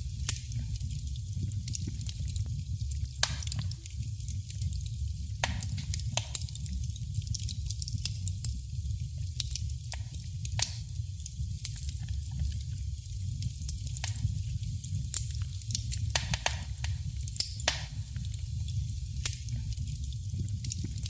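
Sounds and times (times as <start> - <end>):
fire pops and snaps: 0.0 - 21.0
wood fire crackling: 0.0 - 21.0.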